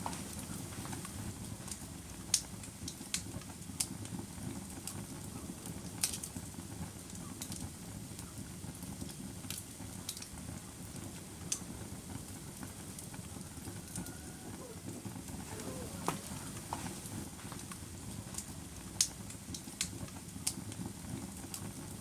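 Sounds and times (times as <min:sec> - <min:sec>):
fire pops and snaps: 0:00.0 - 0:22.0
low rumble of flames: 0:00.0 - 0:22.0
wood fire crackling: 0:00.0 - 0:22.0.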